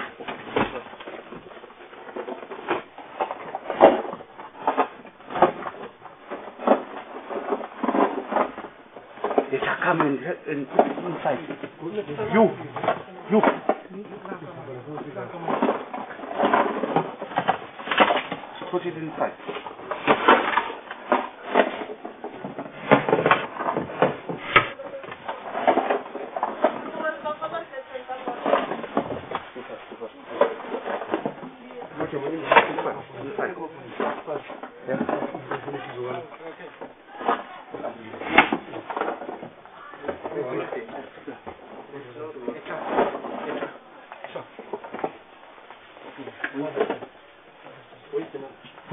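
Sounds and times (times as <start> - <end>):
boxes knocking and clattering: 0.0 - 48.9.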